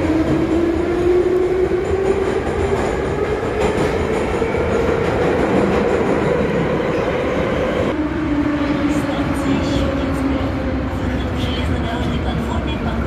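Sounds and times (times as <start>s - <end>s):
train car rumble and rattle: 0.0s - 8.0s, 8.6s - 13.0s.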